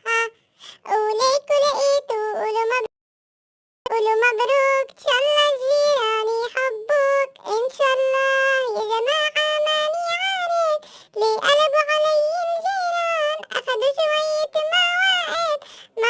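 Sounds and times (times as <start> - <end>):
high-pitched voice singing: 0.0 - 2.9, 3.9 - 16.0.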